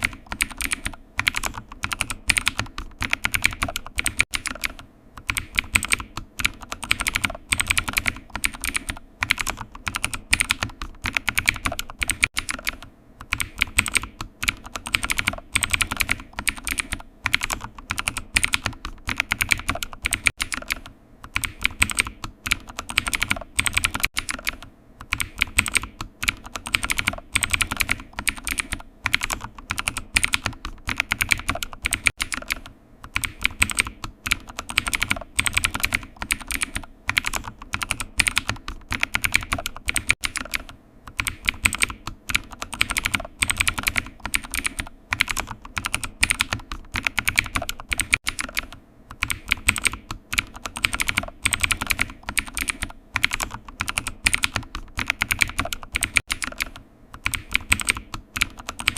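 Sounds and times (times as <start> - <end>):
computer keyboard typing: 0.0 - 58.9.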